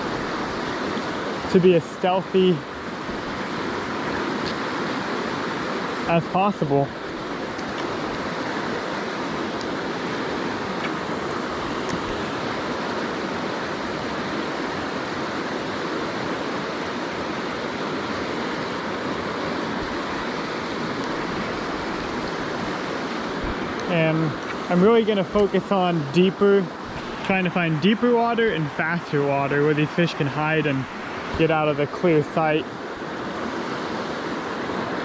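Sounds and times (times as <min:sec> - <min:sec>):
river water flowing: 0:00.0 - 0:35.0.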